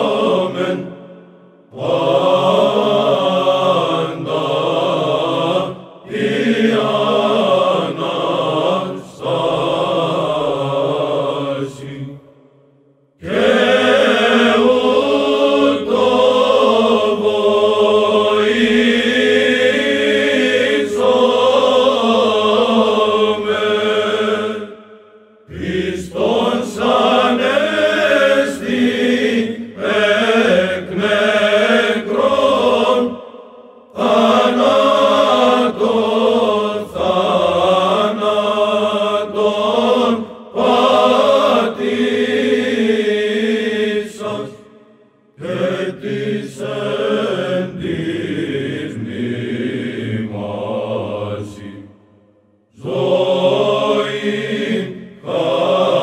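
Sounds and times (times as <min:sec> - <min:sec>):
choir chanting: 0:00.0 - 0:56.0.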